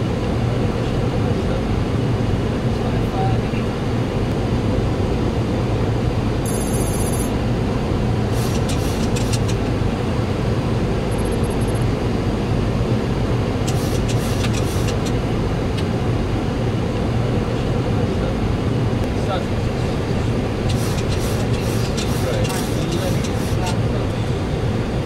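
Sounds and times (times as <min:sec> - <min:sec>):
airflow and engines rushing: 0:00.0 - 0:25.0.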